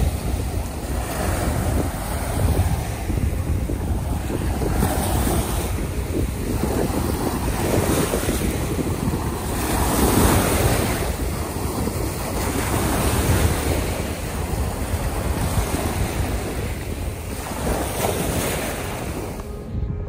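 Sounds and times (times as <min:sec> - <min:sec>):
waves breaking on sandy shore: 0:00.0 - 0:20.0
wind buffeting microphone: 0:00.0 - 0:20.0.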